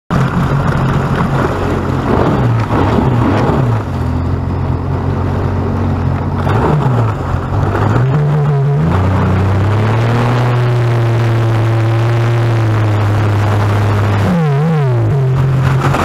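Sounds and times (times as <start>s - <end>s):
watercraft engine running: 0.1s - 16.0s.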